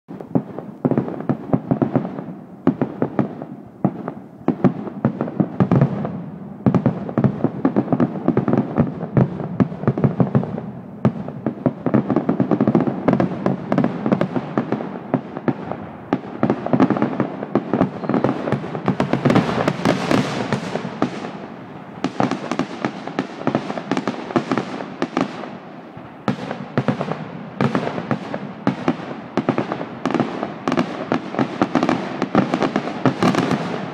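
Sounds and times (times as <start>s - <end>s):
fireworks bursting: 0.1s - 33.9s.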